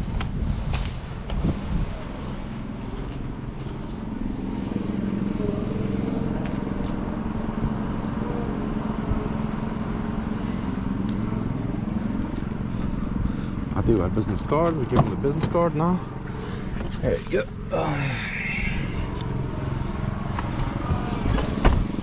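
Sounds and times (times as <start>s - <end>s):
vehicle engine idling: 0.7s - 22.0s.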